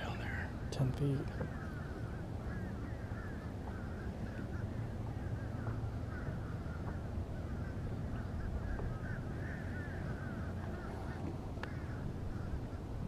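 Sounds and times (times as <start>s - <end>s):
flock of birds calling: 0.0s - 13.0s
low steady rumble: 0.0s - 13.0s.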